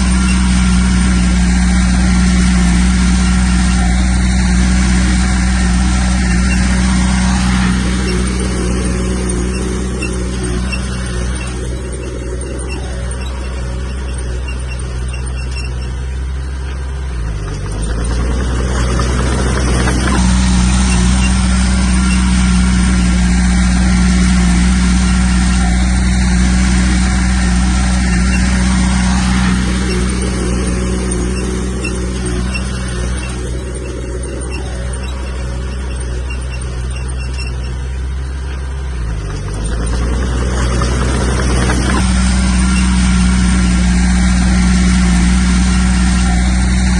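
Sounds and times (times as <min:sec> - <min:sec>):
bulldozer diesel engine under load: 0:00.0 - 0:46.9.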